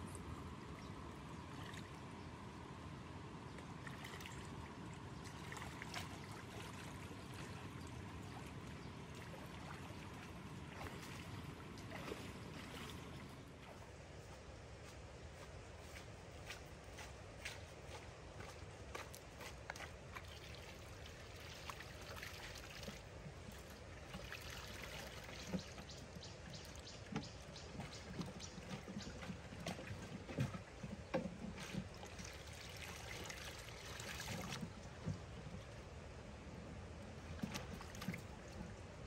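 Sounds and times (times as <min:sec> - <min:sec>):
water trickling and splashing: 0:00.0 - 0:14.4, 0:15.4 - 0:39.0.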